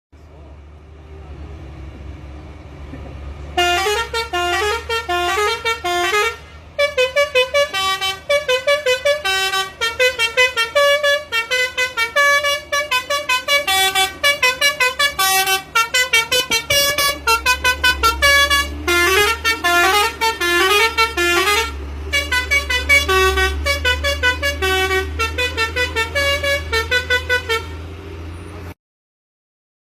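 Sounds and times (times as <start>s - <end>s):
truck engine running: 0.2s - 28.7s
musical truck horn: 3.5s - 28.0s.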